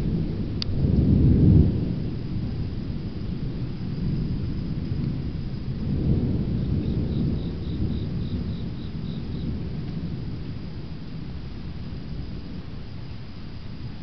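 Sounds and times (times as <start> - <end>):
cricket chirping: 0.0 - 14.0
thunder rumbling: 0.0 - 14.0.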